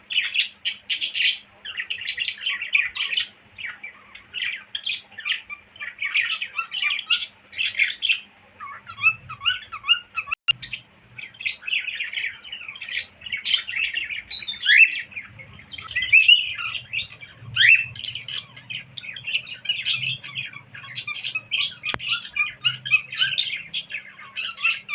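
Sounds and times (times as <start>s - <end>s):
faint low hum: 0.0s - 24.9s
cockatiel chirping and whistling: 0.2s - 24.9s.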